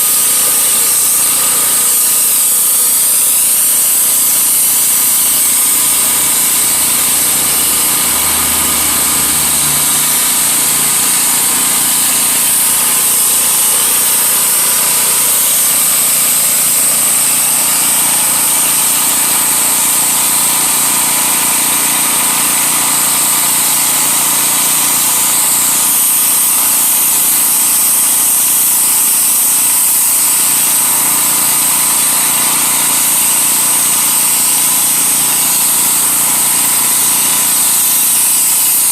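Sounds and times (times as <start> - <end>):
pressure washer engine: 0.0 - 38.9
water spray hissing on concrete: 0.0 - 38.9.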